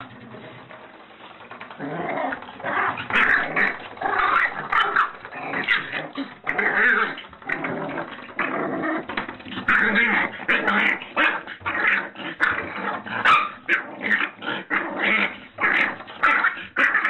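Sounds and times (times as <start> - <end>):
puppy growling: 0.0 - 17.0.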